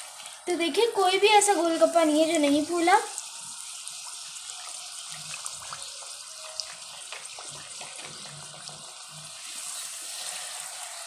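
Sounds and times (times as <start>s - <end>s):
deep-frying sizzling hiss: 0.0s - 11.0s.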